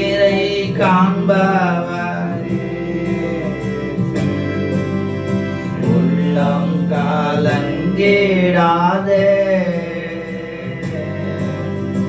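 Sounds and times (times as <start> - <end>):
instrumental backing: 0.0 - 12.0
person singing worship song: 0.0 - 12.0.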